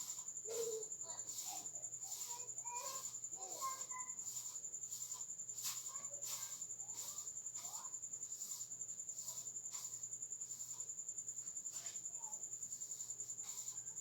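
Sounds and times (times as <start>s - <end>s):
crickets trilling: 0.0s - 14.0s
faint chirps: 0.0s - 14.0s
pulsing hissing insect call: 0.0s - 14.0s.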